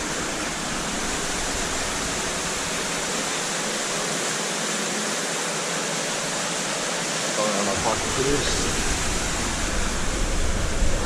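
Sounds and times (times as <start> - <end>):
water rushing in a stream: 0.0 - 11.0.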